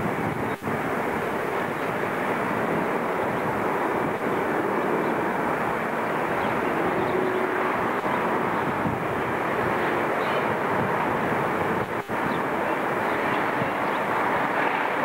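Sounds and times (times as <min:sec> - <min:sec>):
distant jet engine rush: 0:00.0 - 0:15.0.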